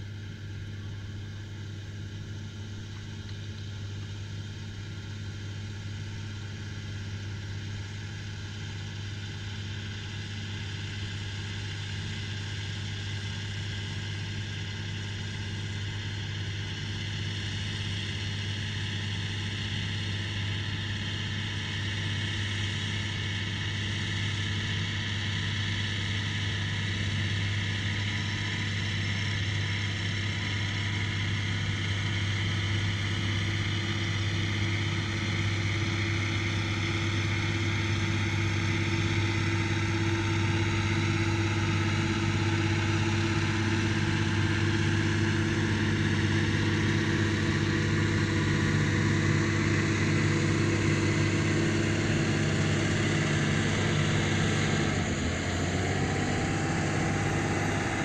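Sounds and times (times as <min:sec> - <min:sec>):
tractor diesel engine under load: 0:07.7 - 0:58.0.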